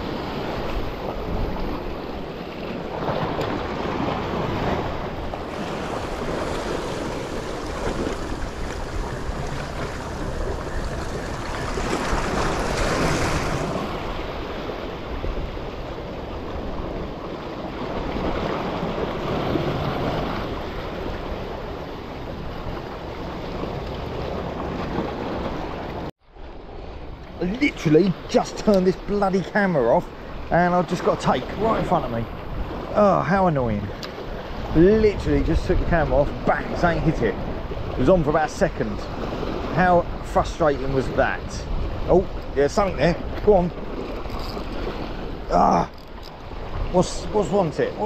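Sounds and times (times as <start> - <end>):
wind buffeting microphone: 0.0 - 28.3, 31.4 - 33.0, 38.9 - 47.8
surf washing against rocks: 0.0 - 48.0.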